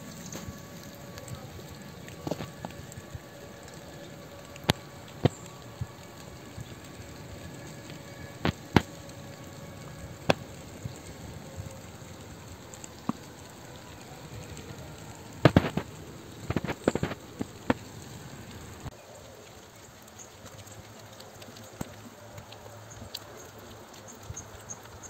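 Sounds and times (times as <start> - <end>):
faint steady background noise: 0.0 - 25.0
sharp snaps and cracks: 0.0 - 25.0.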